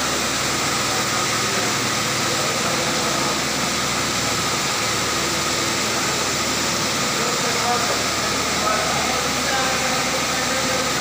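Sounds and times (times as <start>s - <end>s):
diesel generator running: 0.0s - 11.0s.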